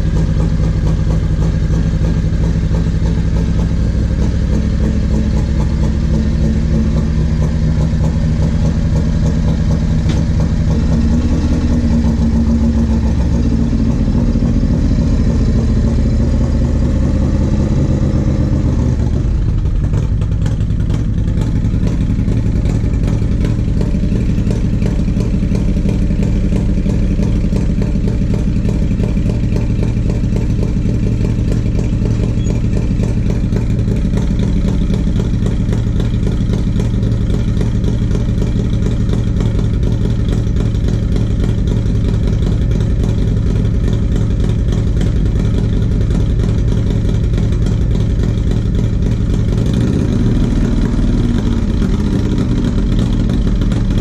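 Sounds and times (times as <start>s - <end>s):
motorcycle engine running loudly: 0.0s - 54.0s.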